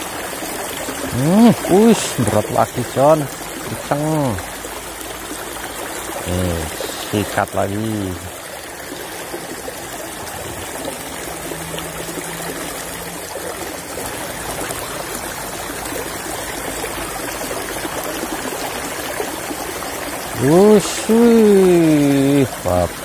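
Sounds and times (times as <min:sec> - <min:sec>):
water trickling in a channel: 0:00.0 - 0:23.0.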